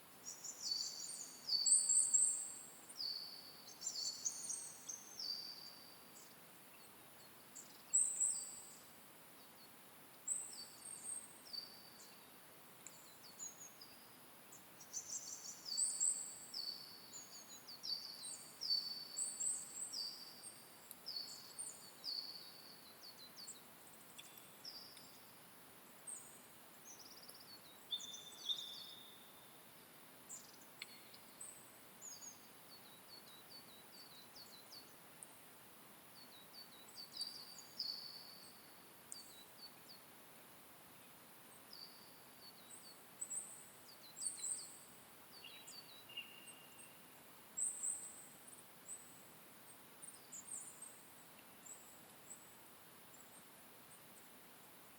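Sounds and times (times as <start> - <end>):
faint steady hiss: 0.0 - 54.9
songbirds singing: 0.2 - 40.2, 41.0 - 54.2.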